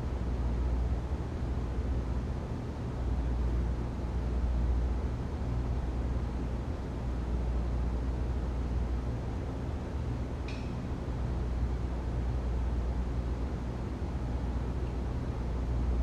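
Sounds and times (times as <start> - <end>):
ventilation system running: 0.0 - 16.0.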